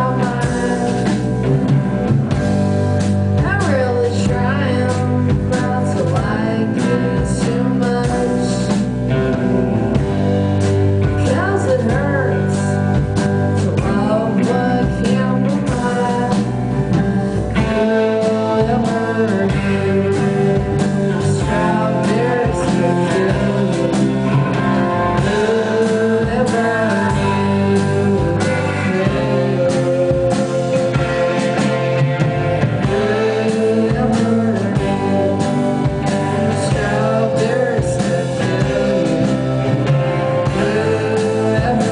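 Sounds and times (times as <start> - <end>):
person singing: 0.0 - 2.1, 3.4 - 10.2, 11.0 - 41.9
rock band guitar: 0.0 - 41.9.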